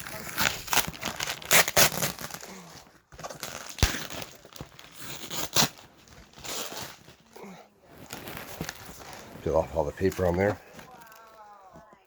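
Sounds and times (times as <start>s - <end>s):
paper and tape tearing: 0.0s - 11.4s.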